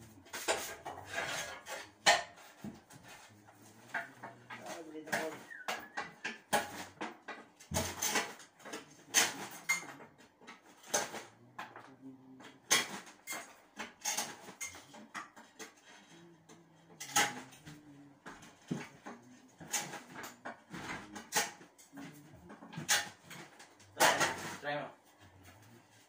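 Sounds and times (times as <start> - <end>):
tools clinking and scraping: 0.0 - 26.0.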